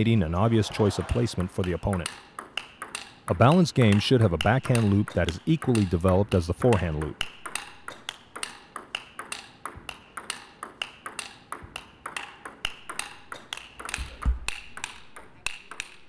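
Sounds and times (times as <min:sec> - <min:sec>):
table tennis ball clicking: 0:01.0 - 0:16.0.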